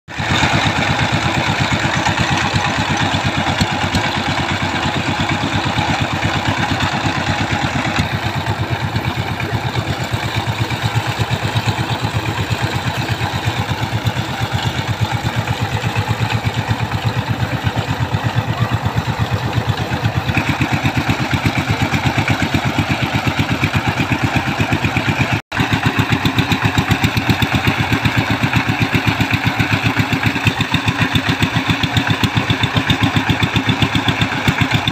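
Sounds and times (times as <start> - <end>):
diesel tiller engine thumping: 0.1 - 34.9.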